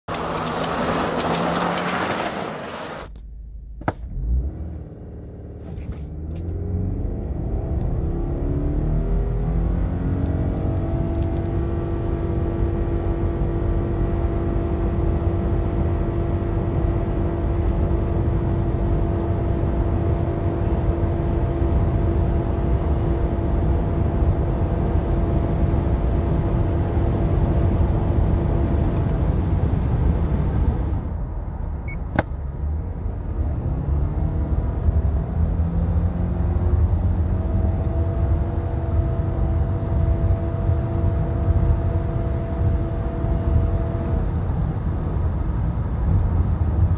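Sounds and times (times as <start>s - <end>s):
car engine droning in cabin: 0.0s - 46.9s.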